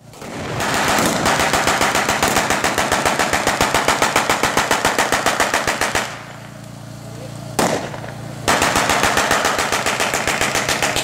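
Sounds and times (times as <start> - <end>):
machine gun firing: 0.0 - 6.4, 7.6 - 11.0.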